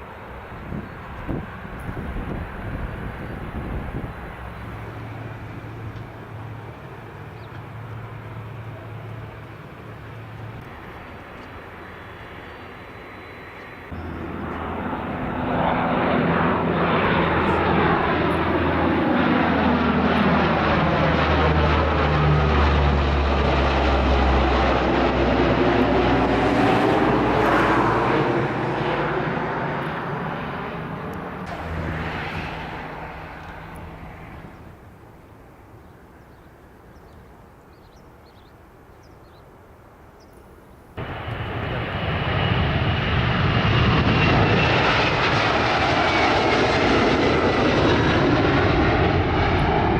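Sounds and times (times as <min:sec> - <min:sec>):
jet engines flyover: 0:00.0 - 0:37.6, 0:38.7 - 0:49.9.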